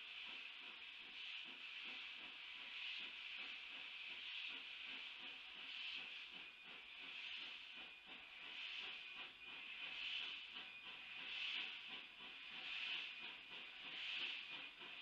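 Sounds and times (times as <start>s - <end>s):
distant steam locomotive chuffing: 0.0s - 15.0s.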